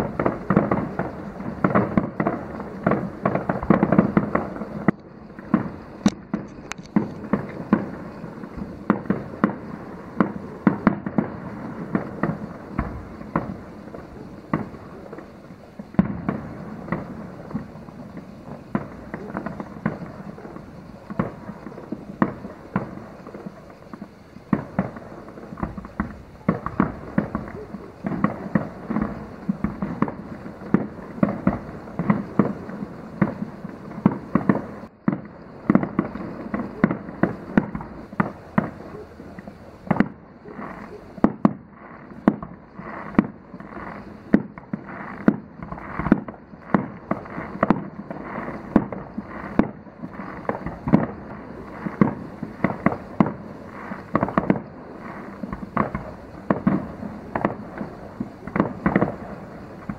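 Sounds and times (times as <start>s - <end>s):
distant fireworks bangs and crackles: 0.0s - 59.9s.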